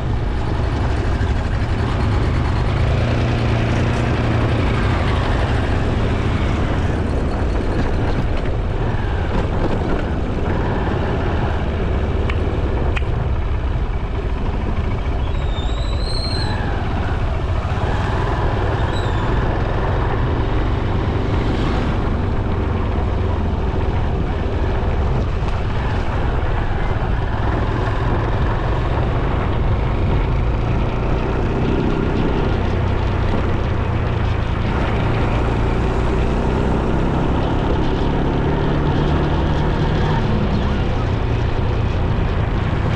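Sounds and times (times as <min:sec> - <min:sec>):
motorcycle wind and road noise: 0:00.0 - 0:42.9.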